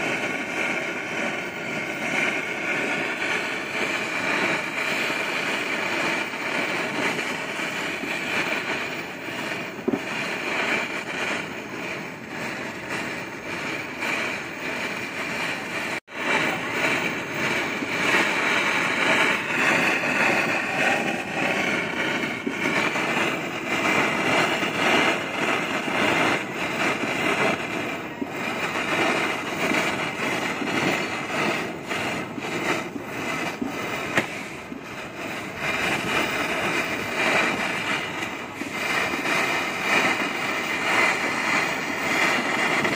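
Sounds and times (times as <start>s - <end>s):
gas torch flame roaring: 0.0s - 42.9s.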